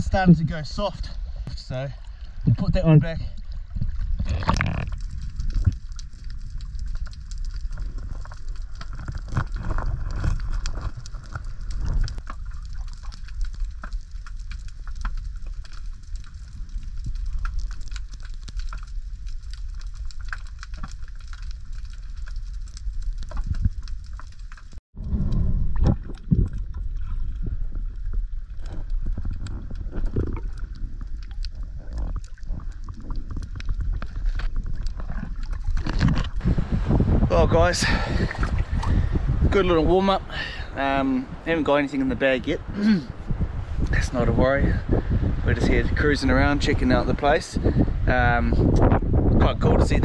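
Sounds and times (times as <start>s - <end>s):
reef clicks and crackles: 0.0s - 50.0s
underwater rumble of moving water: 0.0s - 50.0s.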